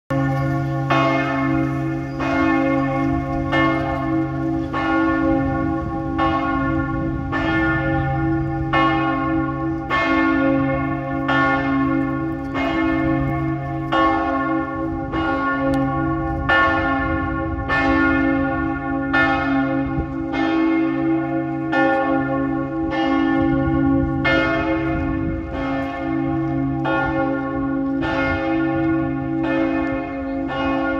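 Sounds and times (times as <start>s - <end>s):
church bells tolling: 0.1s - 30.9s.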